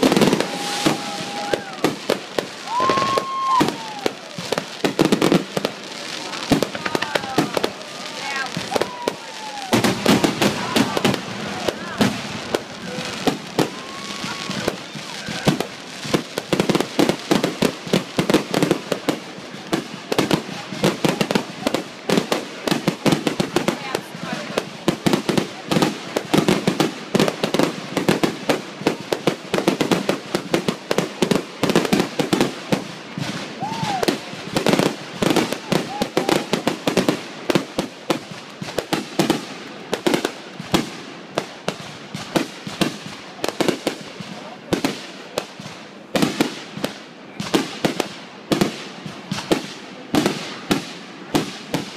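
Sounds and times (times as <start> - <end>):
fireworks bangs and crackles: 0.0 - 51.9.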